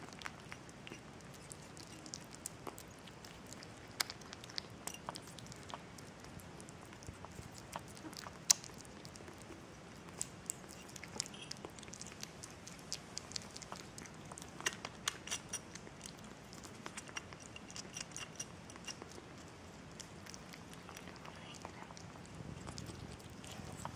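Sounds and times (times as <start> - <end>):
kitten crunching kibble: 0.0 - 23.9.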